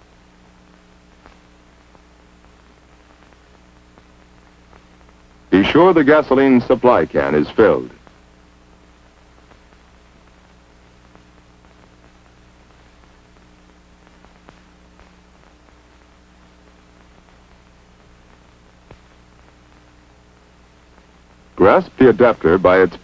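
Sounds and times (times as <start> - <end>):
film soundtrack hiss and hum: 0.0 - 23.0.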